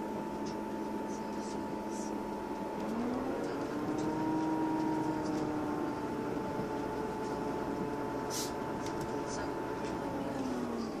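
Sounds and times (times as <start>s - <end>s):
train engine drone: 0.0s - 11.0s
wheel-on-rail rumble: 0.0s - 11.0s.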